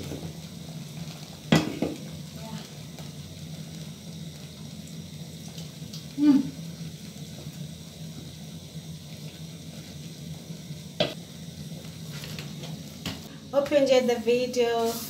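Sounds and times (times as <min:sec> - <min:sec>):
porridge bubbling: 0:00.0 - 0:14.9.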